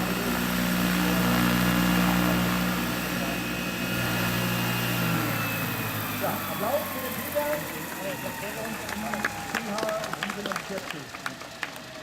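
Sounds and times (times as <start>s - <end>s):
model helicopter rotors humming: 0.0s - 12.0s.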